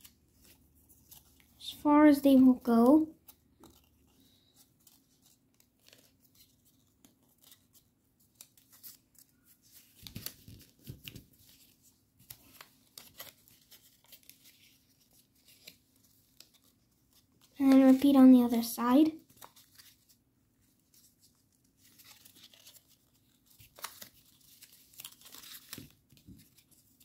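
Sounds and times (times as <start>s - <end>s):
paper crinkling and rustling: 0.0s - 27.0s.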